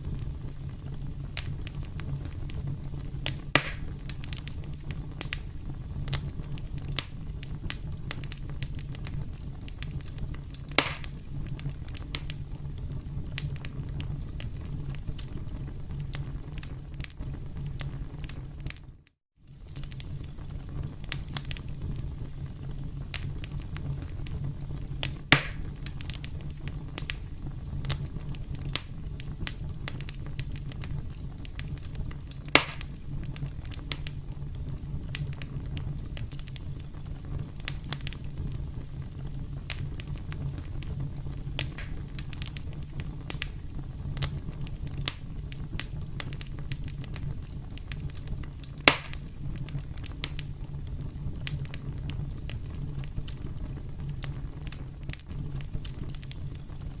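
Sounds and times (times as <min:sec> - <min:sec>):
campfire crackling: 0:00.0 - 0:57.0
loud fire pops: 0:00.0 - 0:57.0.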